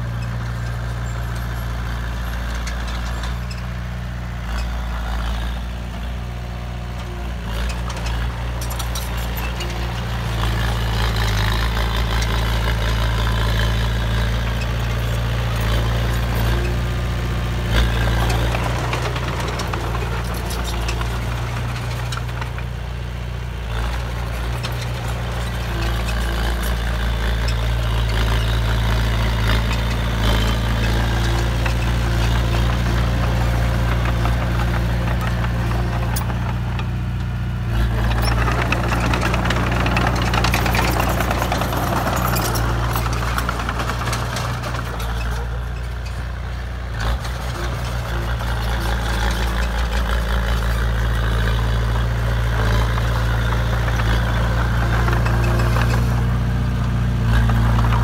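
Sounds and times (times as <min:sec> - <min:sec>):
bulldozer diesel engine humming: 0:00.0 - 0:58.0
rough rattle: 0:07.4 - 0:58.0.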